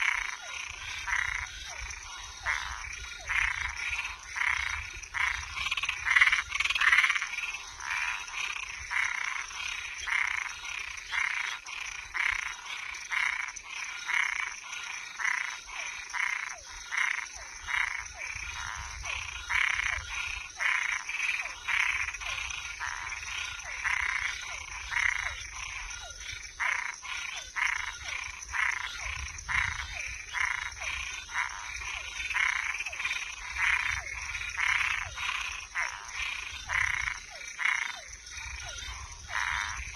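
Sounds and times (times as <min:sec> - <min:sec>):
frogs croaking: 0:00.0 - 0:39.9
high-pitched insect trill: 0:00.0 - 0:39.9.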